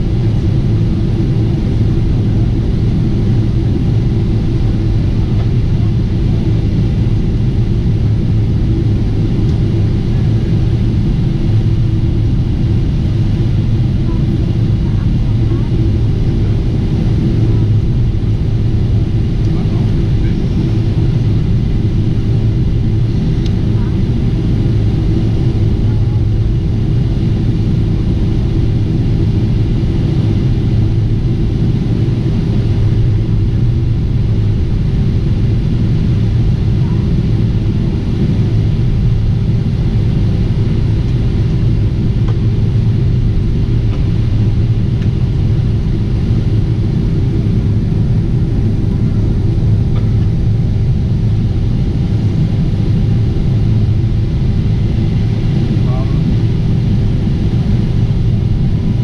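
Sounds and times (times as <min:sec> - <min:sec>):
constant hum: 0:00.0 - 0:59.0
jet engine and airflow roar: 0:00.0 - 0:59.0.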